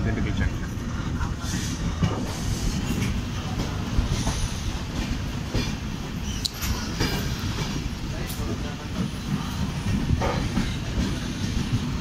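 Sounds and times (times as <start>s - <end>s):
train rumbling on rails: 0.0s - 12.0s
wheels clacking over rail joints: 1.9s - 12.0s.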